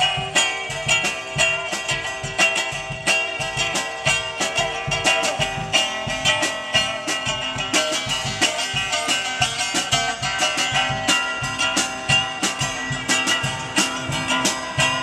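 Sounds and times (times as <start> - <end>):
drums steady beat: 0.0 - 15.0
electric guitar strummed: 0.0 - 15.0.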